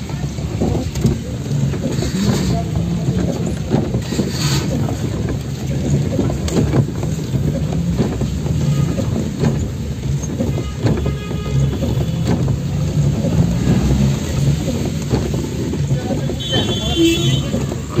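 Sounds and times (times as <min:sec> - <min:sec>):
car engine and road hum: 0:00.0 - 0:18.0
knocks and rattles: 0:00.0 - 0:18.0.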